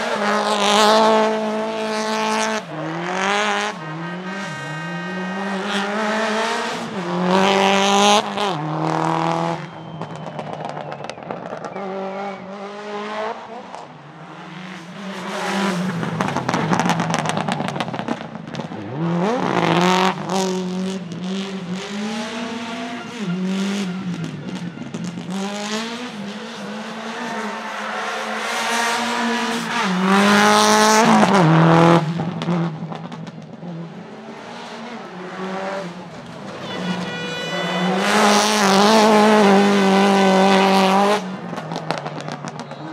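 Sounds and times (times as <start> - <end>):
car engine accelerating hard: 0.0 - 42.9.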